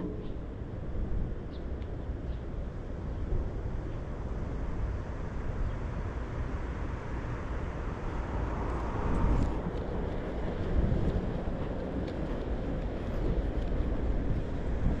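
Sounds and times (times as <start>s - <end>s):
city background noise: 0.0s - 15.0s
wind rumbling on microphone: 0.0s - 15.0s.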